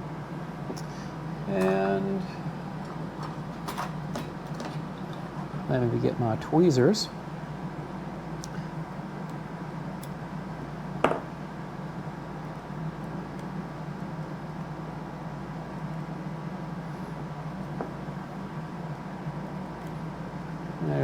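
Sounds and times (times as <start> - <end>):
room hum: 0.0 - 21.0.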